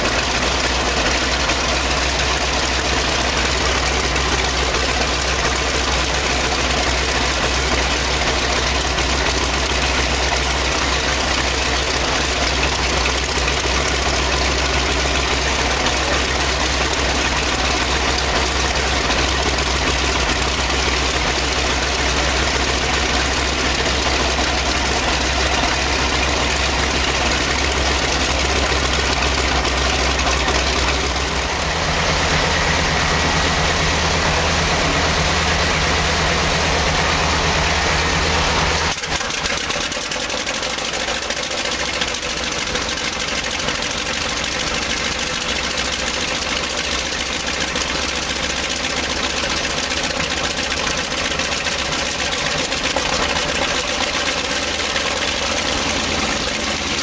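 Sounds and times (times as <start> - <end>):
radial aircraft engine idling: 0.0 - 57.0.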